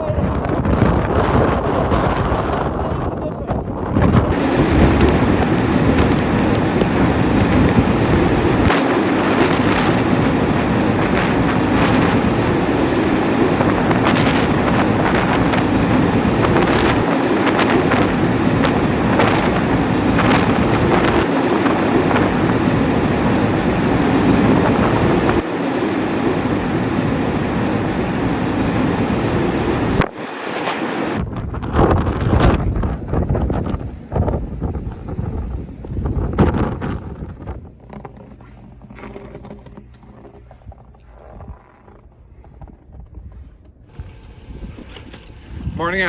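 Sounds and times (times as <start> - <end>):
wind blowing across microphone: 0.0 - 46.0.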